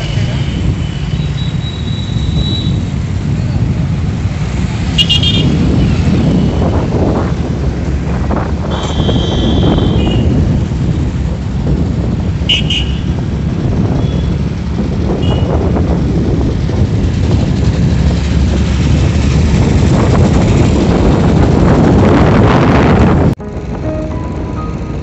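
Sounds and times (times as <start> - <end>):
vehicle running in traffic: 0.0 - 25.0
wind buffeting microphone: 2.2 - 23.4.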